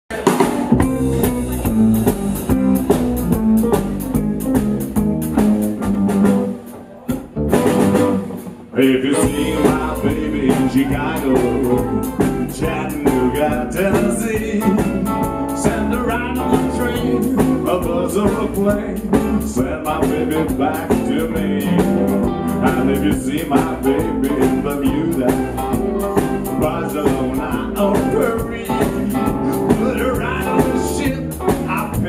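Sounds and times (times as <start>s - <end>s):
live band playing: 0.1s - 32.0s.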